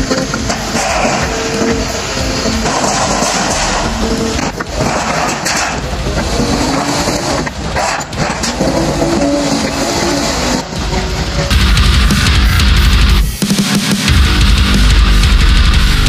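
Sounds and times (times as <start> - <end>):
diesel engine revving: 0.0 - 13.2.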